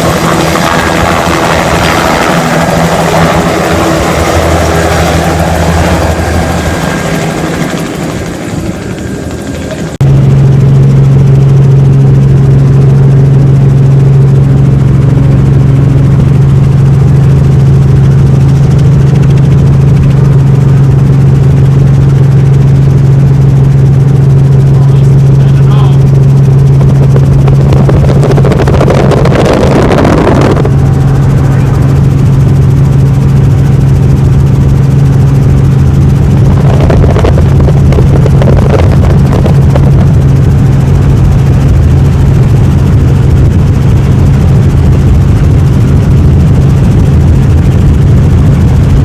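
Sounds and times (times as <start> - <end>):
helicopter engine and rotor: 0.0 - 49.0.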